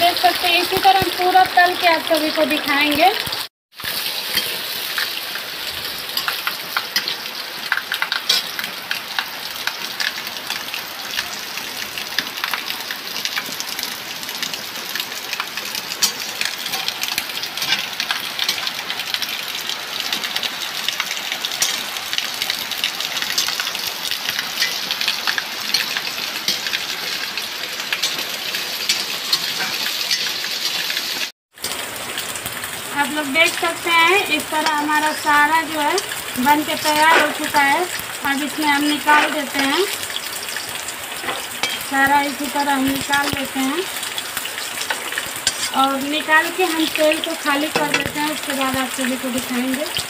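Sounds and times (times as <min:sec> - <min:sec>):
dough deep-frying in hot oil: 0:00.0 - 0:50.0
rain falling: 0:00.0 - 0:50.0.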